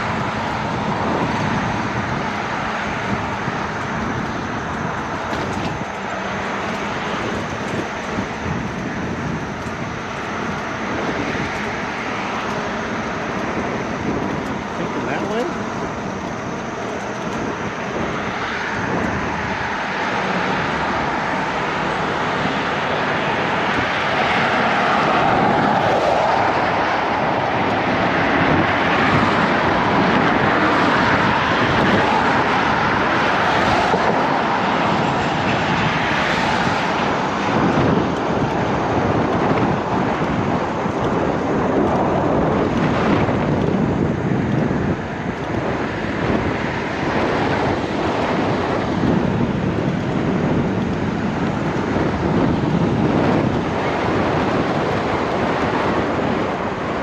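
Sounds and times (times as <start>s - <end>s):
jet airliner passing overhead: 0.0s - 57.0s.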